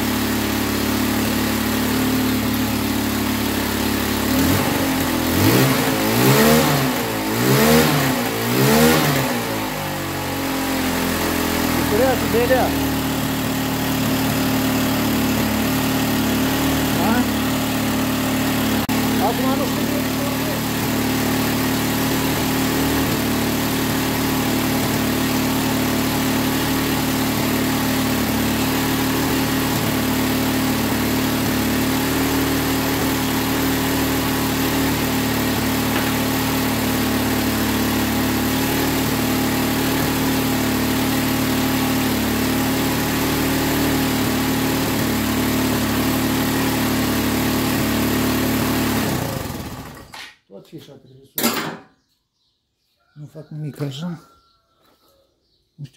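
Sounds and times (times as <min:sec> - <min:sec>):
engine idling with steady hum: 0:00.0 - 0:50.2.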